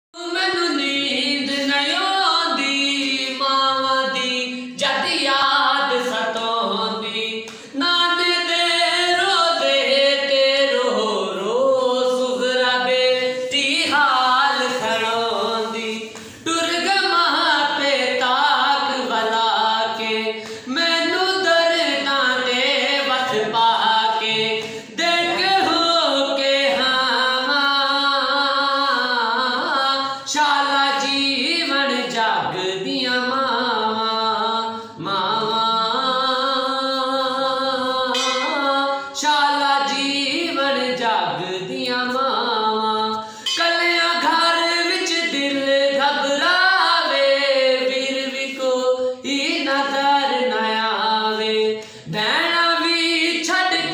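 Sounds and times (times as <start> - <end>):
man singing unaccompanied: 0.2 - 53.9.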